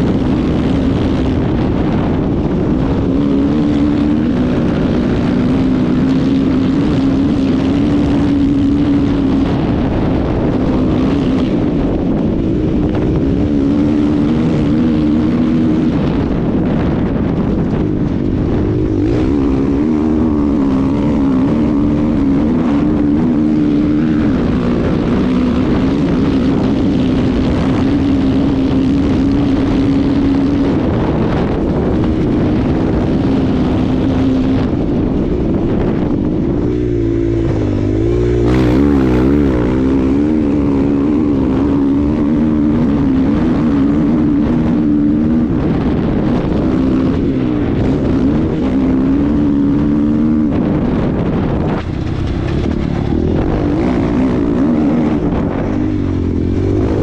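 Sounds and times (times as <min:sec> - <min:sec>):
dirt bike engine running hard: 0:00.0 - 0:57.0
wind rush on microphone: 0:00.0 - 0:57.0.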